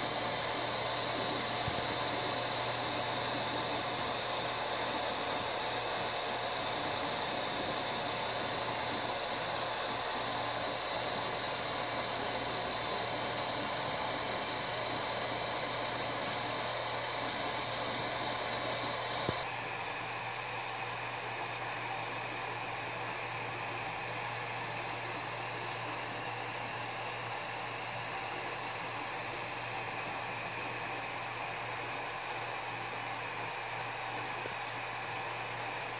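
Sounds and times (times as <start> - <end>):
printer cooling fans whirring: 0.0 - 35.9.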